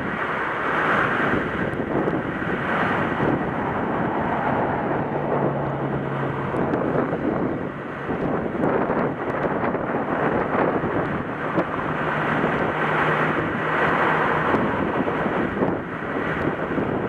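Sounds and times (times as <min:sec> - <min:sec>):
engine running under load: 0:00.0 - 0:17.0
wind buffeting microphone: 0:00.0 - 0:17.0.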